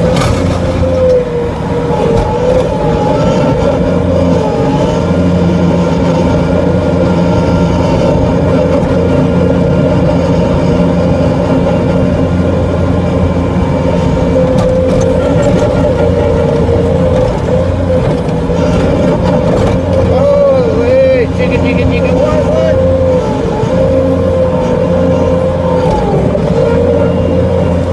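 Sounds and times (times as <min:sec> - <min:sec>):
diesel engine running steadily: 0:00.0 - 0:27.9.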